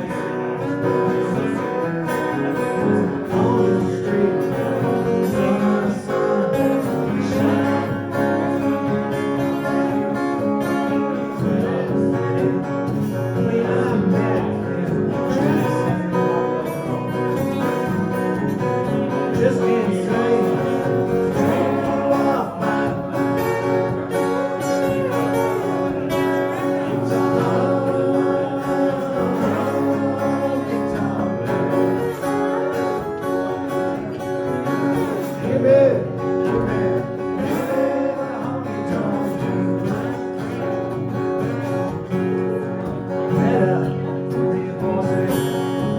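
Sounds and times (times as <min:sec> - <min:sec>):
country music: 0:00.0 - 0:45.9
strummed acoustic guitar: 0:00.0 - 0:45.9.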